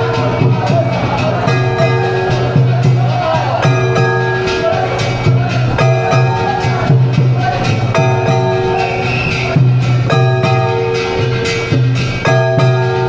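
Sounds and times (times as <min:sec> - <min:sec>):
steady drumming: 0:00.0 - 0:13.0
struck metal bells ringing: 0:00.0 - 0:13.0.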